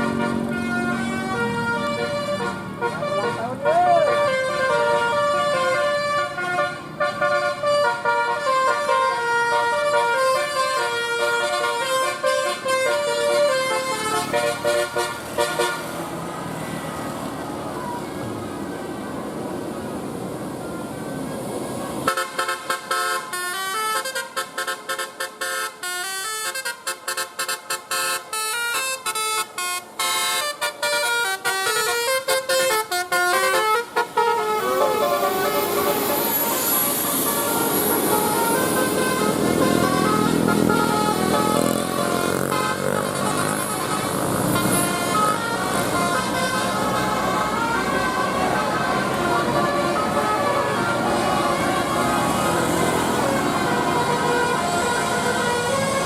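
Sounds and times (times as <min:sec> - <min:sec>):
bus musical horn tune: 0:00.0 - 0:16.4, 0:22.0 - 0:56.0.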